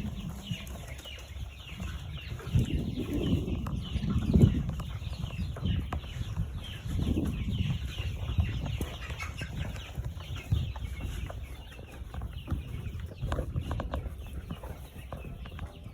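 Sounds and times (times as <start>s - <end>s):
chicks peeping: 0.0s - 15.9s.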